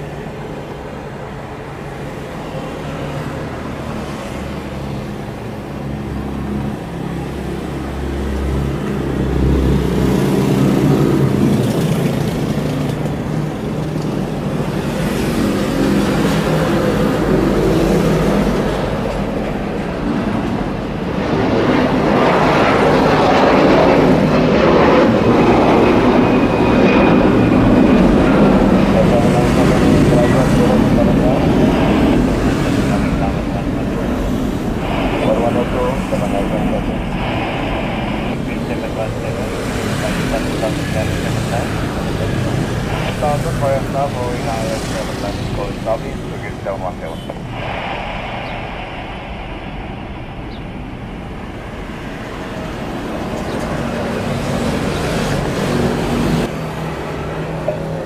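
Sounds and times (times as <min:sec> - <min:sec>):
jet airliner engine rumble: 0:00.0 - 0:58.0.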